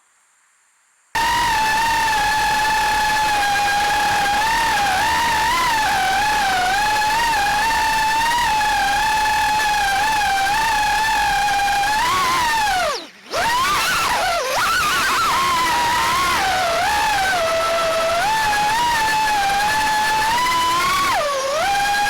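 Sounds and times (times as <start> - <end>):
drone propellers whining: 1.2 - 22.0.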